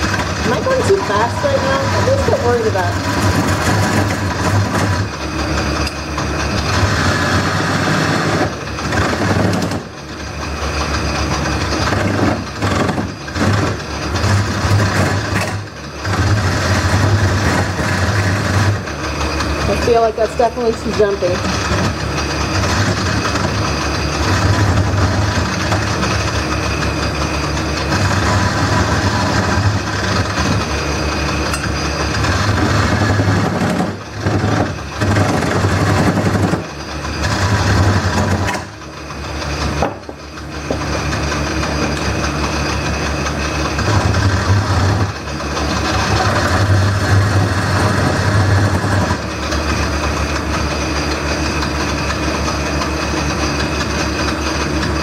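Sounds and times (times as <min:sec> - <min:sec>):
gouge scraping spinning wood: 0:00.0 - 0:55.0
lathe motor hum: 0:00.0 - 0:55.0.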